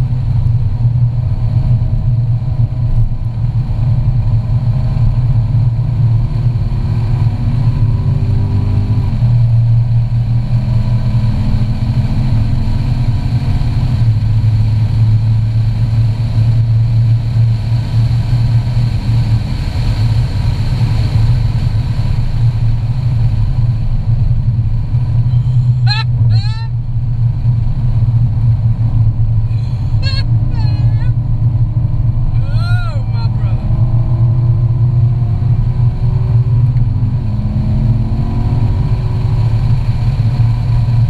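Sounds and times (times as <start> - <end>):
car engine accelerating: 0.0 - 41.0
exhaust and road noise drone: 0.0 - 41.0.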